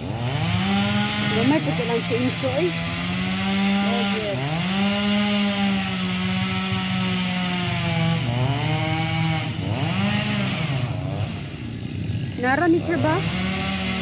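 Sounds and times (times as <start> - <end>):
chainsaw cutting tree: 0.0 - 14.0.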